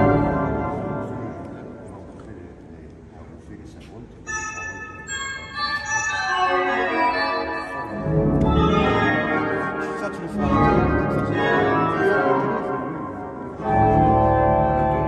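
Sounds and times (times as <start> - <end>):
pipe organ chords: 0.0 - 2.2, 4.3 - 15.0.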